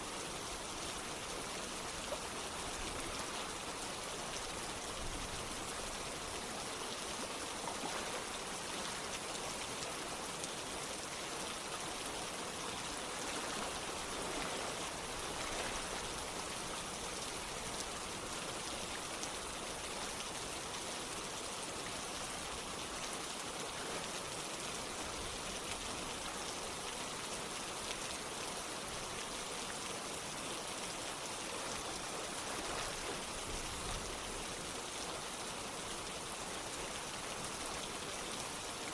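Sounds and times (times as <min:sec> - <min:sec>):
running water: 0:00.0 - 0:38.9
steady rain: 0:00.0 - 0:38.9.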